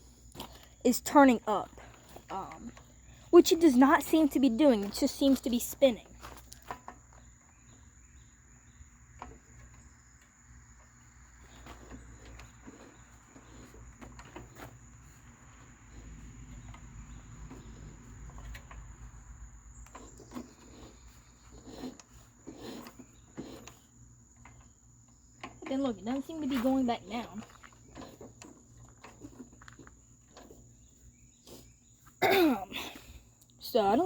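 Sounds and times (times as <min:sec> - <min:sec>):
cricket trilling: 0:00.2 - 0:34.0.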